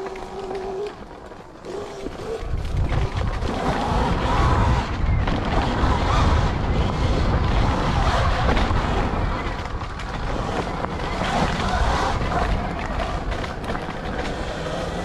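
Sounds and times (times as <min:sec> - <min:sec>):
faint dirt bike motor: 0:00.0 - 0:15.0
wind buffeting microphone: 0:00.0 - 0:15.0.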